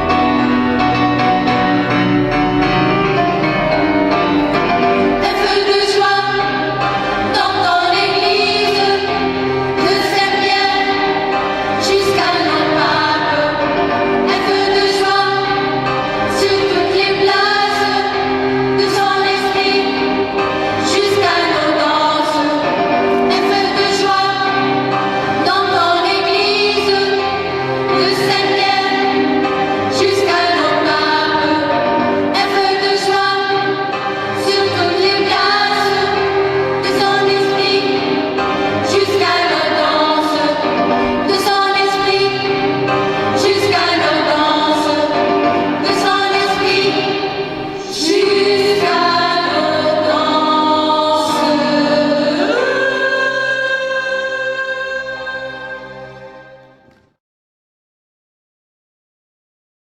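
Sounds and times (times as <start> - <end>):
choir singing a hymn: 0.0 - 56.8.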